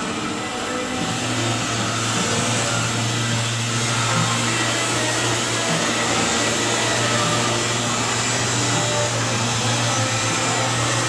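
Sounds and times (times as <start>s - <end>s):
orbital sander whirring: 0.0s - 11.0s
hiss of air: 0.8s - 10.9s.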